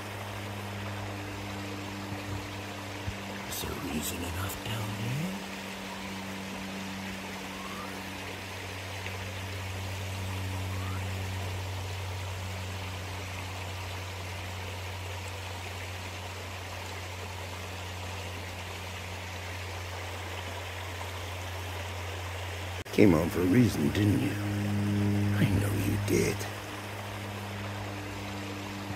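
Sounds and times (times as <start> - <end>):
creek water running over rocks: 0.0 - 28.9
steady low drone: 0.0 - 28.9.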